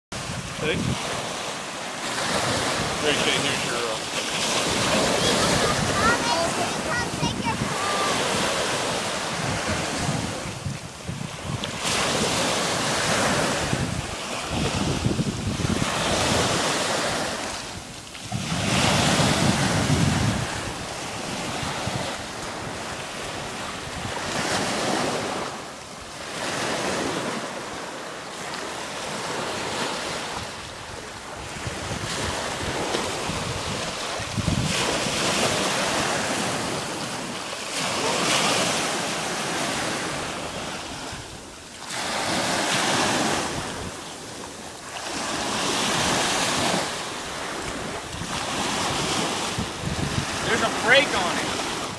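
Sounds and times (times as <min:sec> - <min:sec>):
wind buffeting microphone: 0:00.1 - 0:01.4, 0:02.1 - 0:25.5, 0:29.4 - 0:37.2, 0:39.5 - 0:44.5, 0:45.3 - 0:51.9
small waves breaking on beach: 0:00.1 - 0:51.9.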